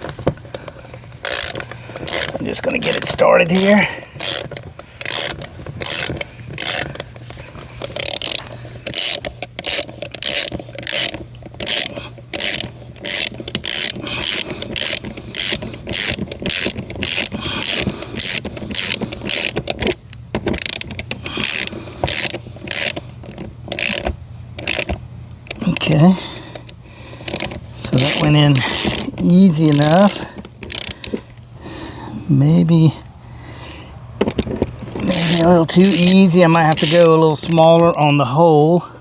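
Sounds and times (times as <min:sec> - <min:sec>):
ratchet wrench clicking: 0:00.0 - 0:31.3, 0:34.2 - 0:38.4.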